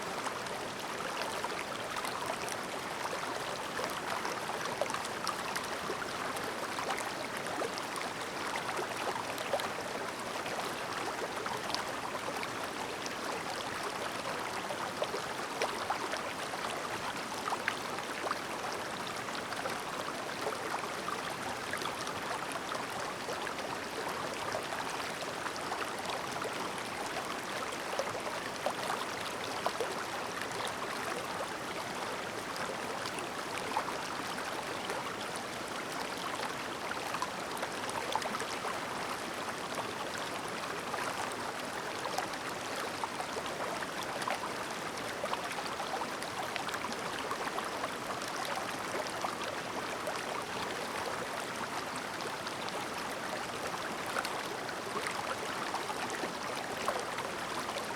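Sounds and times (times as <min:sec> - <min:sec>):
stream babbling: 0:00.0 - 0:57.9.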